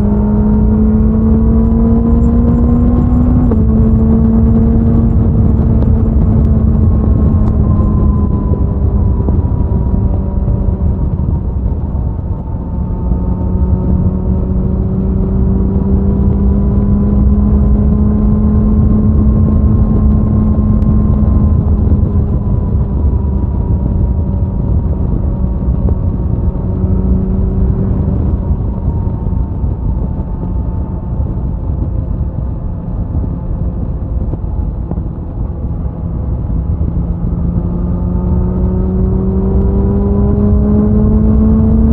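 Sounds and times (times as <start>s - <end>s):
motorcycle engine cruising: 0.0s - 41.9s
rushing wind noise: 0.0s - 41.9s.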